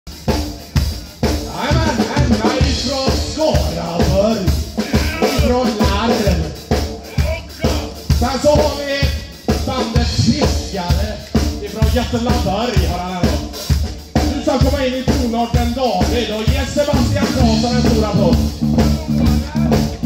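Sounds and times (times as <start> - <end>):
drum kit beat: 0.1 - 20.0
rock band playing: 0.1 - 20.0.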